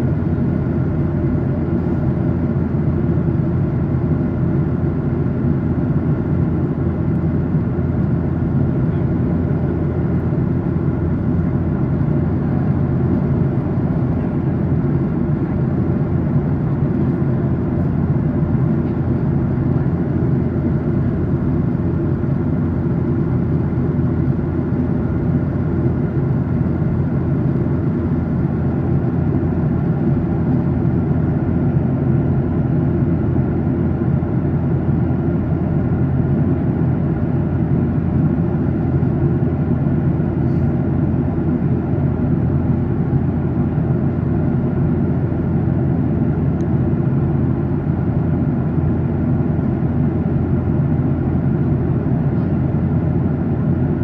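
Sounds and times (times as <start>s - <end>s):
jet engine drone: 0.0s - 54.0s.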